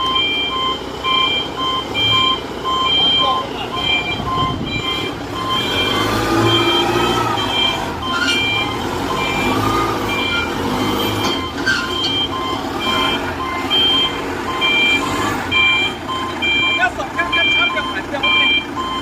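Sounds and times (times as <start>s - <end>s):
engine running: 0.0s - 19.0s
reversing alarm beeping: 0.0s - 19.0s.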